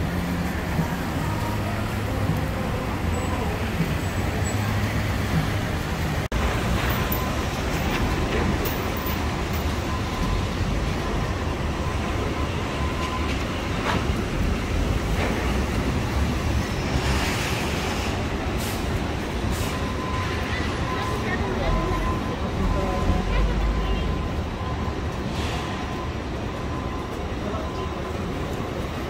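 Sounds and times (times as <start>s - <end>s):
city street traffic on wet pavement: 0.0s - 29.0s.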